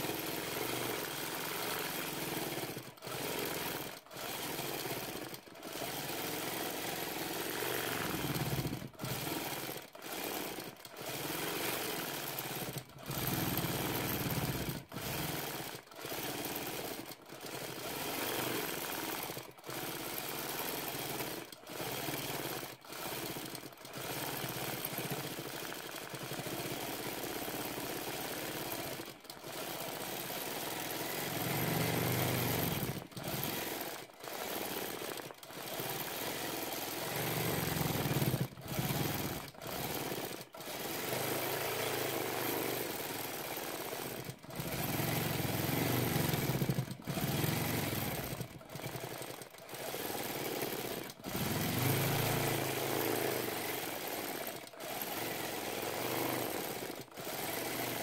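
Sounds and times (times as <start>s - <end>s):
quilting machine needle chatter: 0.1s - 58.0s.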